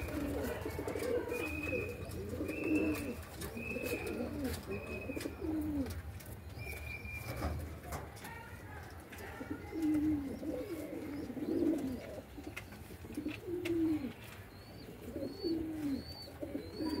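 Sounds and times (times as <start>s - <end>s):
pigeons cooing: 0.0s - 7.9s, 9.2s - 17.0s.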